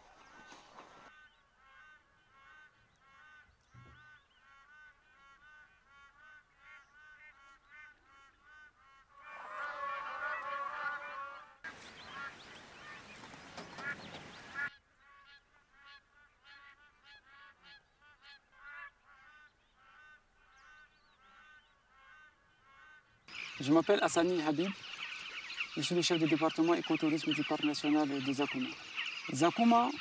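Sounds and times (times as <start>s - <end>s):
flock of birds honking: 4.5s - 20.1s, 21.4s - 30.0s.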